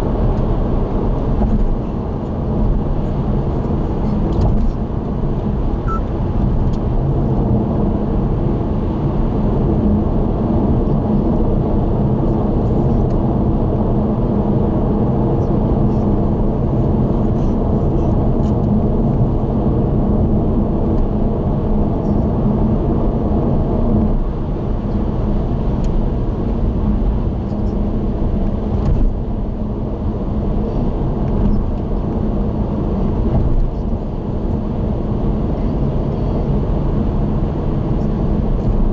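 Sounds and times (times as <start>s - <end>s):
low engine hum: 0.0s - 38.9s.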